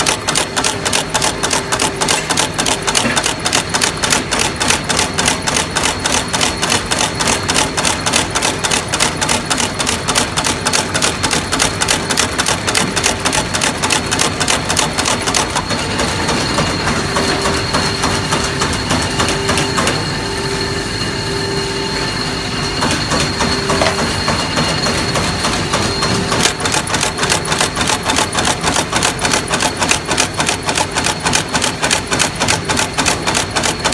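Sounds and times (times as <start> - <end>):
machine clacking strokes: 0.0 - 21.4, 22.0 - 33.9.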